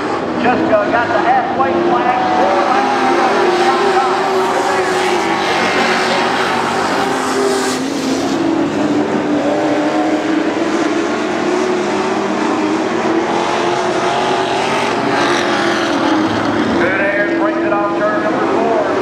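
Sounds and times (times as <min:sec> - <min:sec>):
race truck engines: 0:00.0 - 0:19.0.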